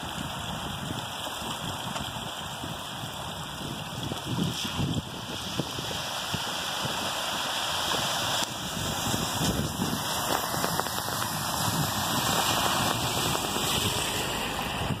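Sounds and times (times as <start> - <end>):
car tyres splashing through water: 0.0 - 15.0
wash of water: 0.0 - 15.0.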